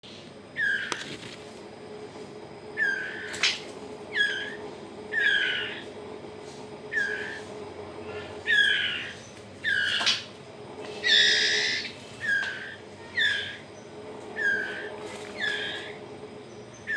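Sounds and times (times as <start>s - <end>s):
bird fledglings begging calls: 0.1s - 1.1s, 2.6s - 16.9s.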